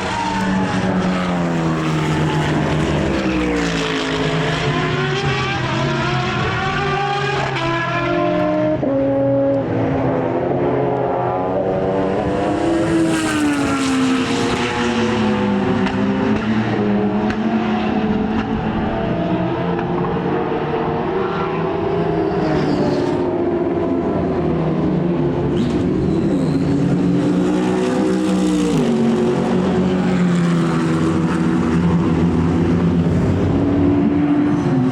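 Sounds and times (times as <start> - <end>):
racing car engines: 0.0 - 34.9.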